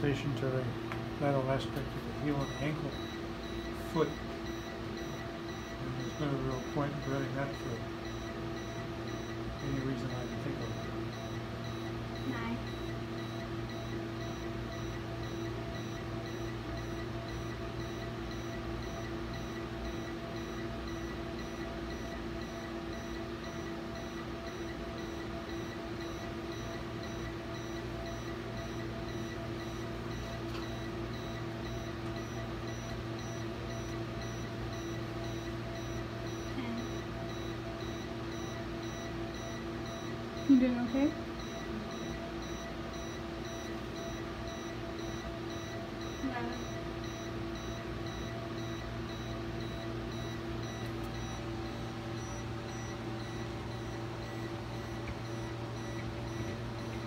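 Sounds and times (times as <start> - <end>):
fast regular beeping: 0.0 - 57.0.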